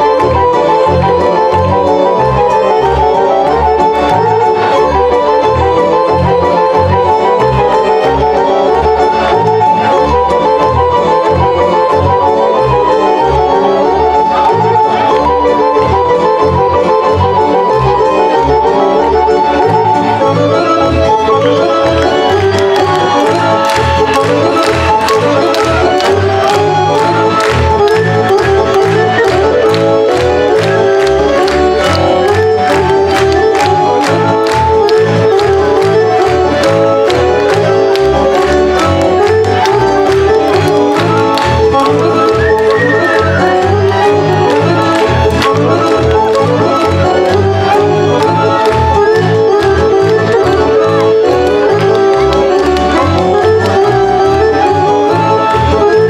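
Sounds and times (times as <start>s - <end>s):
fiddle-led folk dance music: 0.0s - 56.0s.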